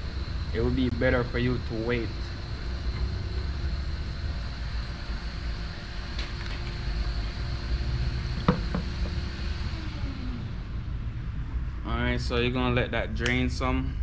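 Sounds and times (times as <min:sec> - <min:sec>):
low shop rumble: 0:00.0 - 0:14.0.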